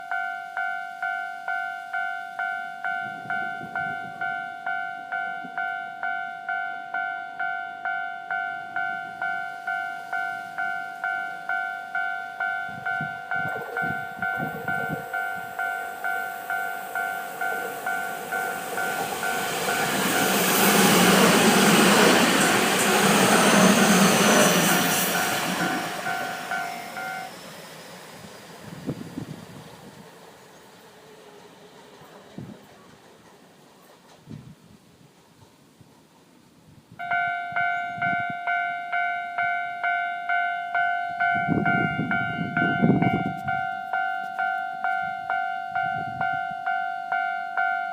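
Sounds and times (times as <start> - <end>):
level-crossing warning bell ringing: 0.0 - 29.0, 37.0 - 47.9
electric train passing: 0.0 - 47.9.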